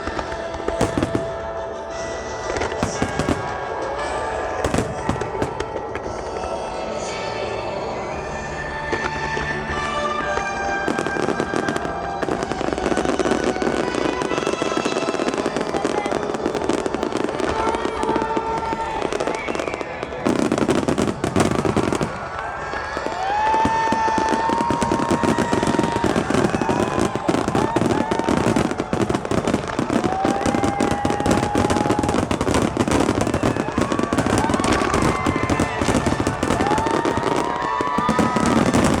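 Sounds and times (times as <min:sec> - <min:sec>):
fireworks bursting and crackling: 0:00.0 - 0:07.4, 0:08.1 - 0:39.0.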